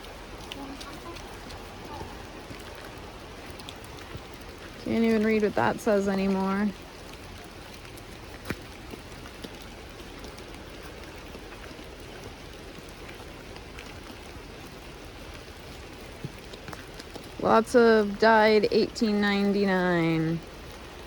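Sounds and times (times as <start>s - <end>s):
rain pattering on surfaces: 0.0s - 21.0s.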